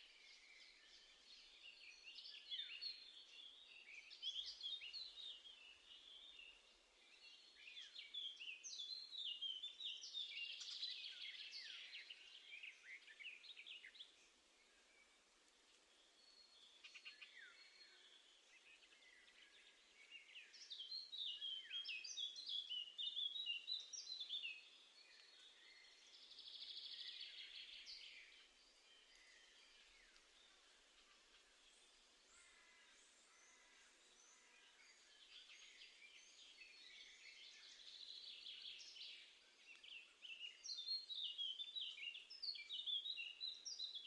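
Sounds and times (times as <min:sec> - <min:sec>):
songbirds singing: 0:00.0 - 0:44.0.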